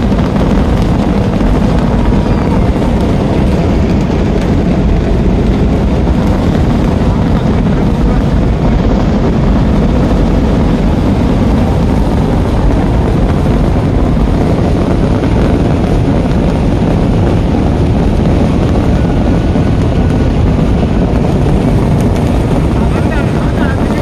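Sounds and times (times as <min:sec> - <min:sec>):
fireworks explosions rumbling: 0:00.0 - 0:24.0.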